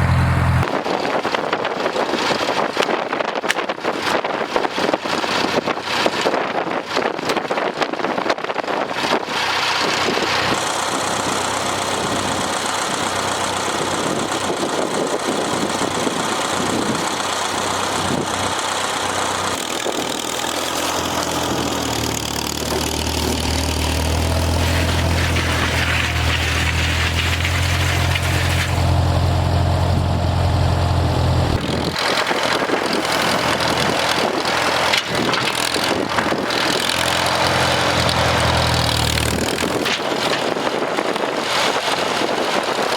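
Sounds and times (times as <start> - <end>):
tractor engine running: 0.0 - 7.0, 8.6 - 42.9.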